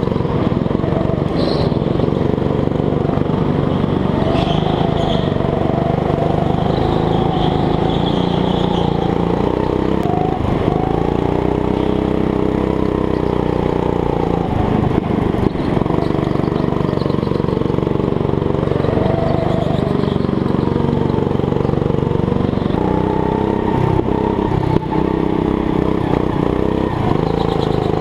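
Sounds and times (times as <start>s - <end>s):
go-kart engine running hard: 0.0s - 28.0s.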